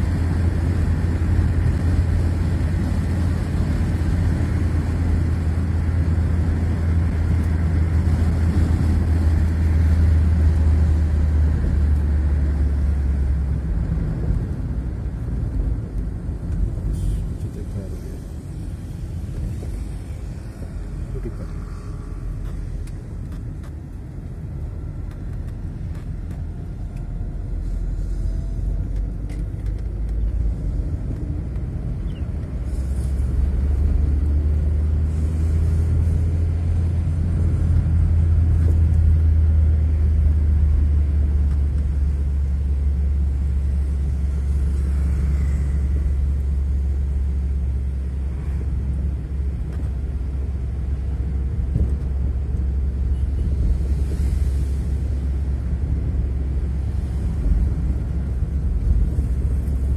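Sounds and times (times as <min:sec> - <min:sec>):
car road and engine drone: 0:00.0 - 0:59.9.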